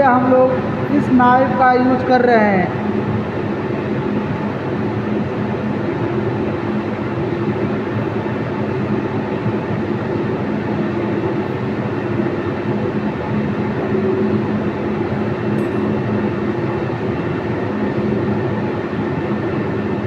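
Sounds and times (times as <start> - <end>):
mechanical hum and rumble: 0.0 - 20.0.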